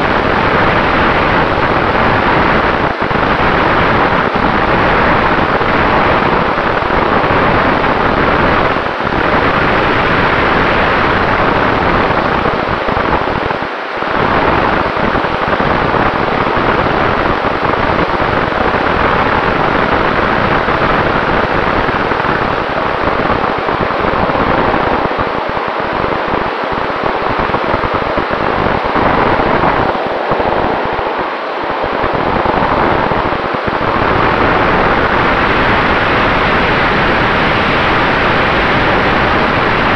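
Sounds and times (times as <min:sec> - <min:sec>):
airflow rushing over microphone: 0:00.0 - 0:39.9.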